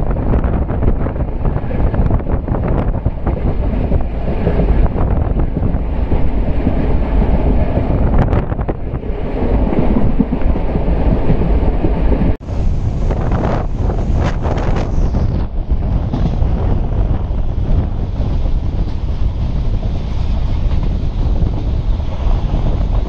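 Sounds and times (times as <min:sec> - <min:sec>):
train wheels rumbling on rails: 0:00.0 - 0:23.0
wind buffeting microphone: 0:00.0 - 0:23.0.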